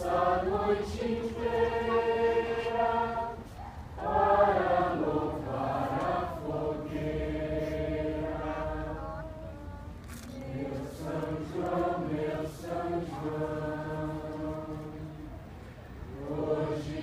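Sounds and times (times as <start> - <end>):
group of voices singing: 0.0 - 9.2, 10.4 - 15.3, 16.1 - 17.0.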